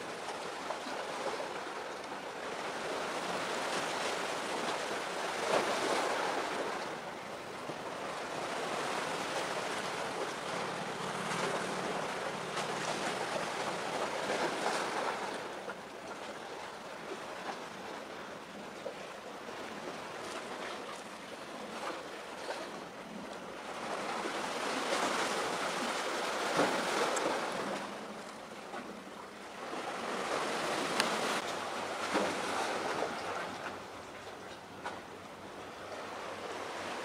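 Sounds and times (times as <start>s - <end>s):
sea waves washing in: 0.0s - 37.0s.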